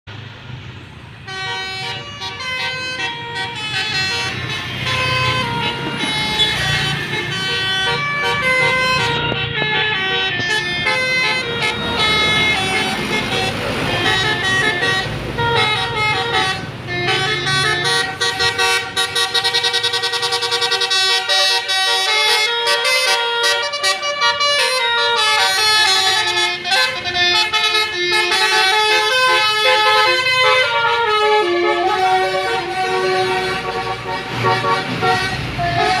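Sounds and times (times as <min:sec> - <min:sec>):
low bus engine rumble: 0:00.1 - 0:36.0
multi-tone musical bus horn: 0:01.2 - 0:36.0.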